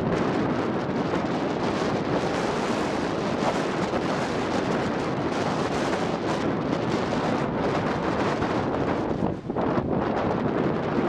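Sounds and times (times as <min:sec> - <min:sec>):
heavy surf breaking: 0:00.0 - 0:11.0
wind buffeting microphone: 0:00.0 - 0:11.0.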